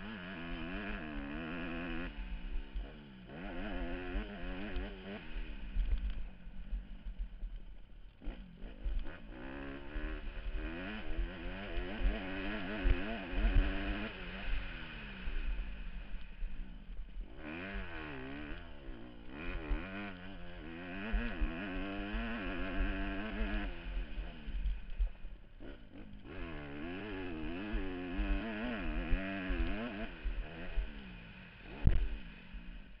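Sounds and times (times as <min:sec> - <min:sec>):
motocross bike engine revving: 0:00.0 - 0:33.0.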